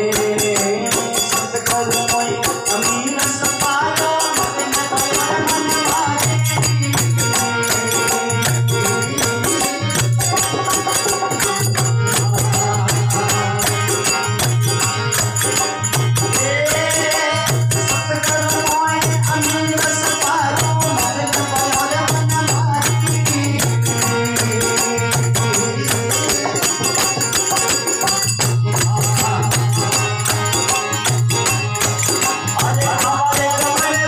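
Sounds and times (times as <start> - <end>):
hand percussion rhythm: 0.0 - 34.0
harmonium melody: 0.0 - 34.0
man singing: 0.0 - 34.0.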